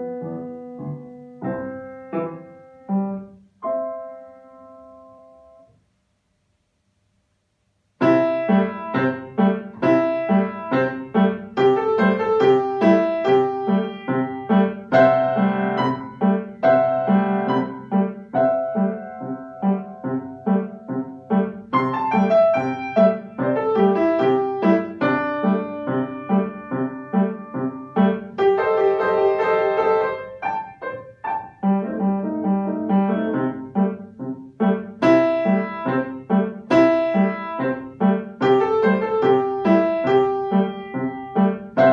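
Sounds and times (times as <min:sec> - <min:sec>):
solo piano classical piece: 0:00.0 - 0:06.9, 0:07.6 - 0:41.9.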